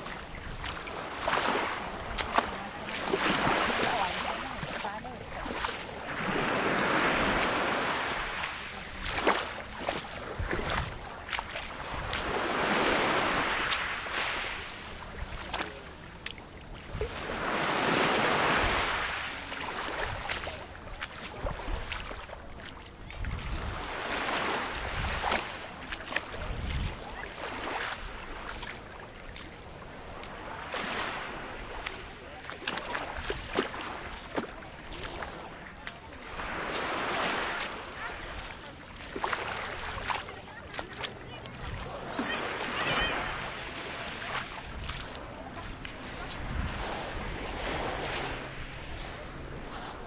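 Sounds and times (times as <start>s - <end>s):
waves washing on pebble shore: 0.0s - 22.6s, 23.2s - 28.8s, 29.7s - 50.0s.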